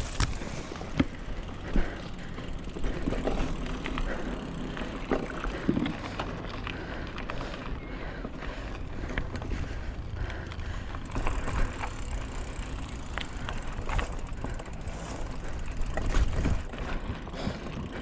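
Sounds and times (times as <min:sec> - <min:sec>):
bike clicks and rattles: 0:00.0 - 0:18.0
bike tyres rumbling on dirt: 0:00.0 - 0:18.0.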